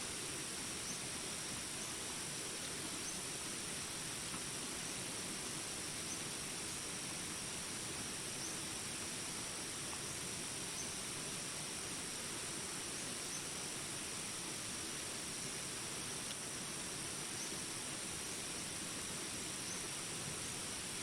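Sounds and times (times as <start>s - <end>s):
insect chorus: 0.0s - 21.0s
rain hiss: 0.0s - 21.0s.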